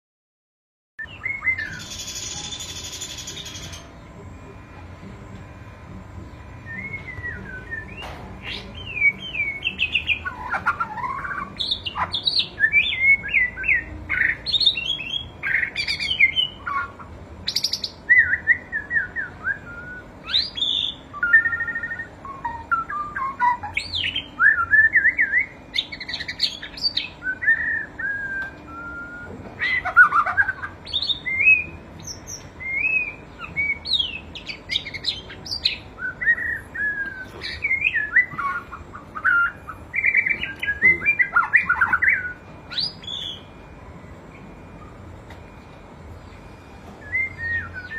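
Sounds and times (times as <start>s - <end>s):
bird singing whistled phrases: 1.0s - 3.9s, 6.6s - 43.8s, 46.9s - 47.9s.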